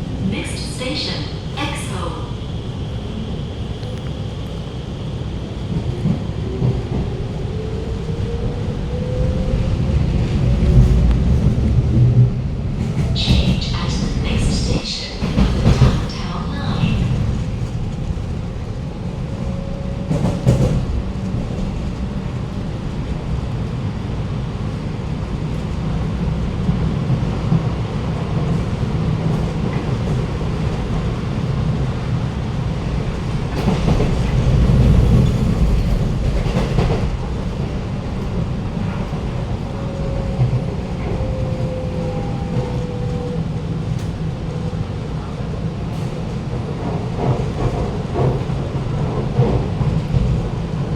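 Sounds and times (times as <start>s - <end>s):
metro train rumble: 0.0s - 50.9s.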